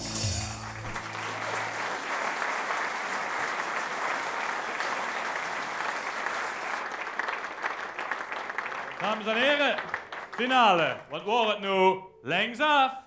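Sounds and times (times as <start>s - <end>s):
audience applauding: 0.2s - 11.2s.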